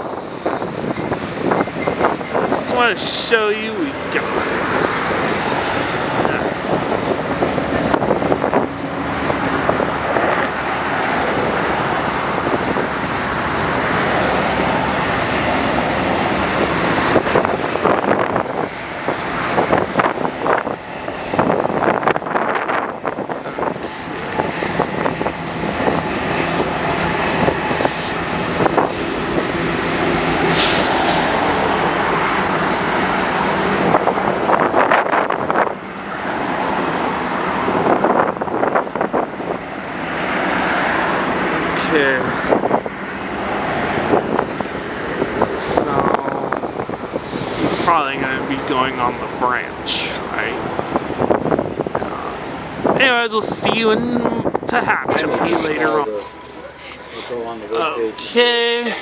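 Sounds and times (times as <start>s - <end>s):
train knocks: 0.0s - 47.8s
train wheels on rail: 0.0s - 53.7s.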